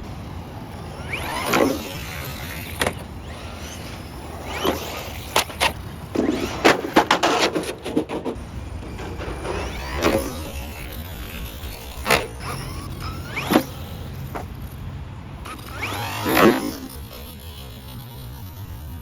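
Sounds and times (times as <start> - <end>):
rc car knocks and clatters: 0.7 - 19.0
rc car hits and rattles: 0.9 - 14.8, 15.4 - 18.9.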